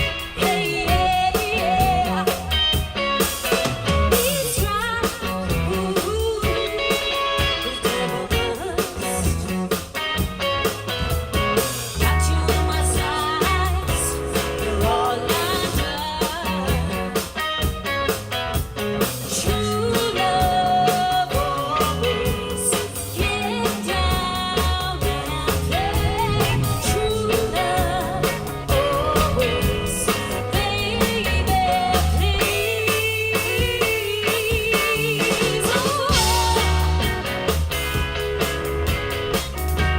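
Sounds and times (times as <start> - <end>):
woman singing: 0.0 - 3.0, 4.1 - 9.7, 12.0 - 17.4, 19.3 - 37.3
live rock band playing: 0.0 - 39.9.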